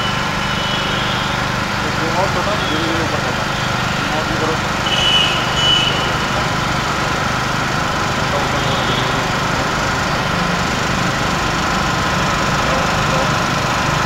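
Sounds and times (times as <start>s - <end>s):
engine running with whine: 0.0s - 14.0s.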